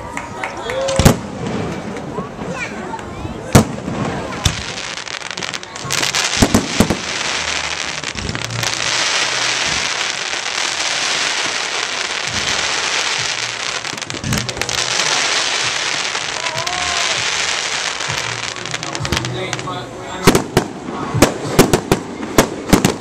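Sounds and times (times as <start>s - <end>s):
fireworks crackling: 0.8s - 23.0s.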